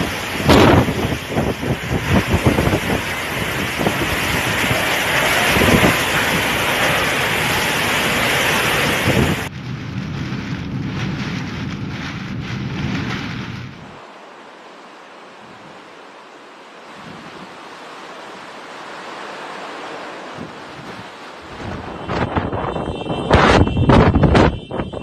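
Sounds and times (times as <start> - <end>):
driving rain: 0.0 - 25.0
hurricane wind rushing: 0.0 - 25.0.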